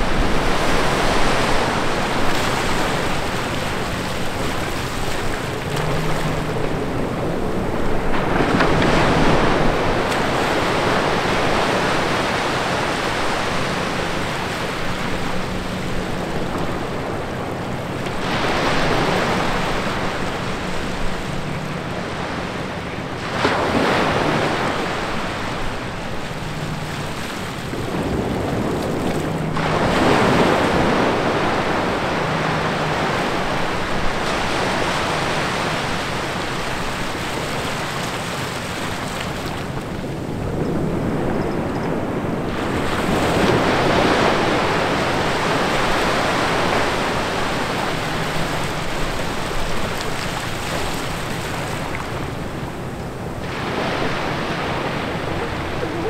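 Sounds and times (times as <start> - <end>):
small waves washing over sand: 0.0 - 56.0.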